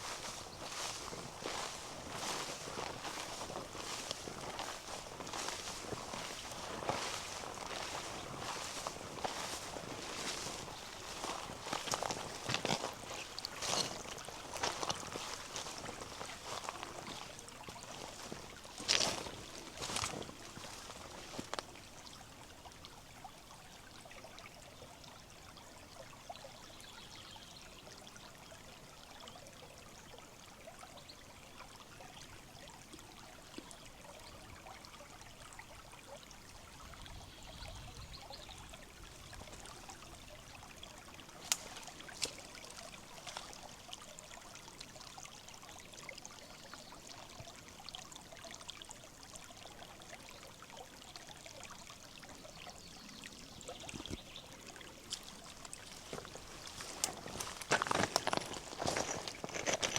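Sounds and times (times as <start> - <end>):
shallow river flowing over stones: 0.0 - 59.9.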